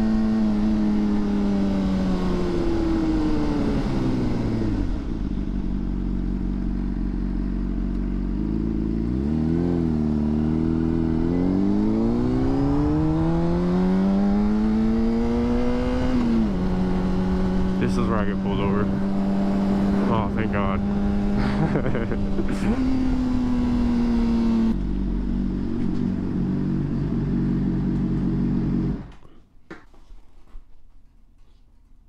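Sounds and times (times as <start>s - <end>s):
motorcycle engine: 0.0s - 29.4s.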